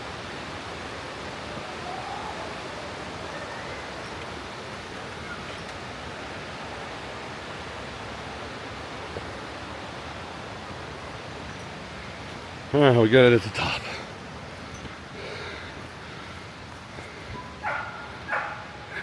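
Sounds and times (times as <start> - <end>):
waterfall rushing water: 0.0 - 19.0.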